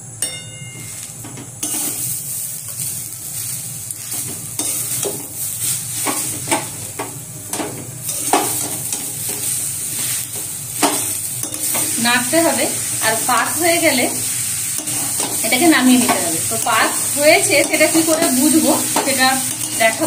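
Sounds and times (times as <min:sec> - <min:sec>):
hot pan hissing: 0:00.0 - 0:20.0
spatula scraping steel wok: 0:00.8 - 0:20.0.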